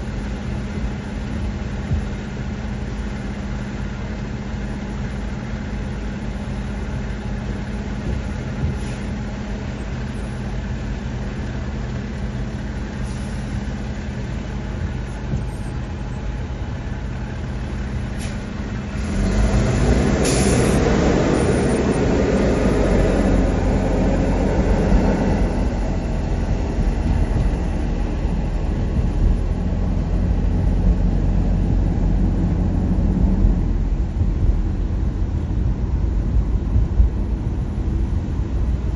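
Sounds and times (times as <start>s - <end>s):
car engine idling: 0.0s - 38.9s
road noise: 0.0s - 38.9s.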